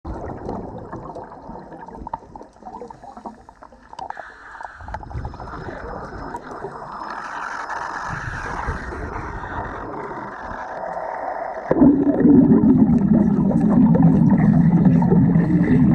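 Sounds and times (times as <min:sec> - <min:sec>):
muffled underwater bubbling: 0:00.1 - 0:15.9.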